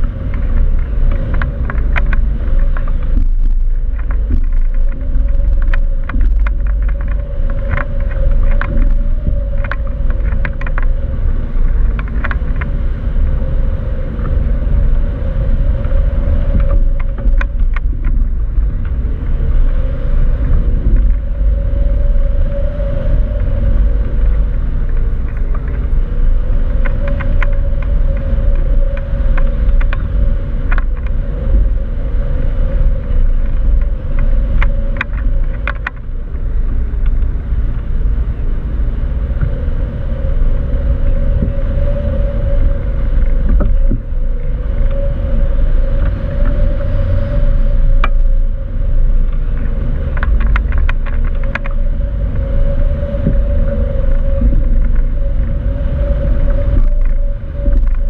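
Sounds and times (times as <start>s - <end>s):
wavering drone-like tone: 0.0s - 58.0s
wind buffeting microphone: 0.0s - 58.0s.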